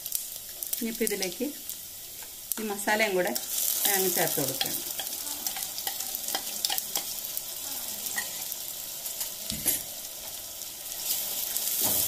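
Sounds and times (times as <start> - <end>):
paste sizzling in pot: 0.0 - 12.0.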